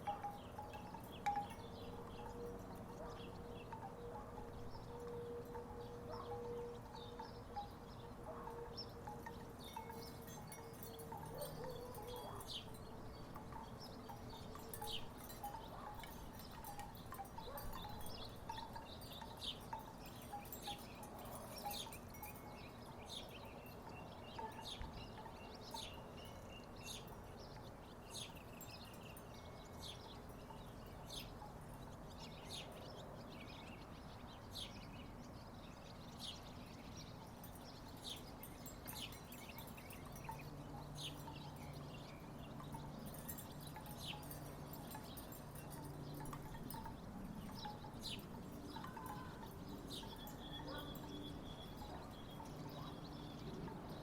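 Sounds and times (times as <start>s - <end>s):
wooden wind chimes clacking: 0.0s - 33.2s, 37.0s - 54.0s.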